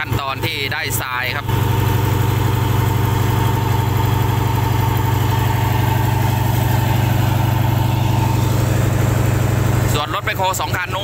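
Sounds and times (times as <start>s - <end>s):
dredge engine chugging: 0.0s - 11.0s.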